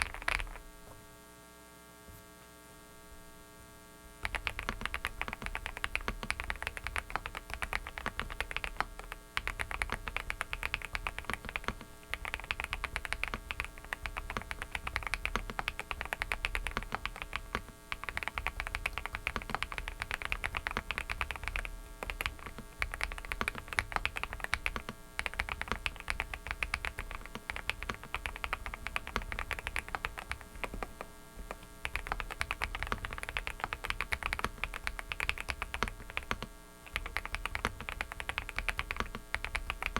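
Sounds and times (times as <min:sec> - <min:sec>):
mechanical keyboard typing: 0:00.0 - 0:00.6, 0:04.2 - 0:39.9
electrical hum: 0:00.0 - 0:39.9.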